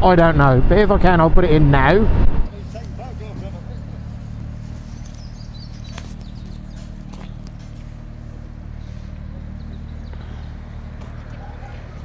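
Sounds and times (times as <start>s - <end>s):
low engine hum: 2.1s - 12.0s.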